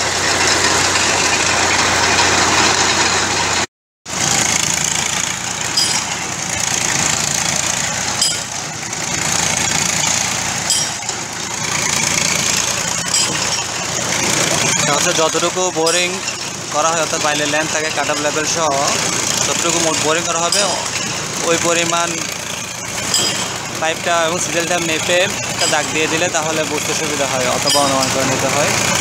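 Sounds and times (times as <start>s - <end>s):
winch engine running: 0.0s - 29.0s.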